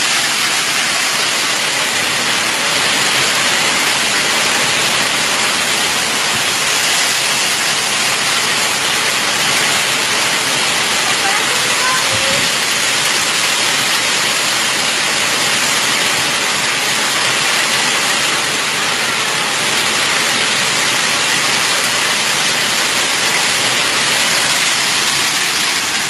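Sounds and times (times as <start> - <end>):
hail and heavy rain falling: 0.0 - 26.0.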